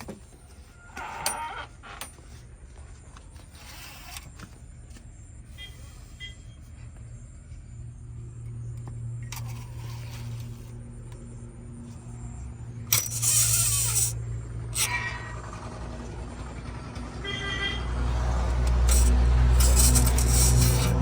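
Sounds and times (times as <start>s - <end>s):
heavy machinery diesel engine running: 0.0s - 21.0s.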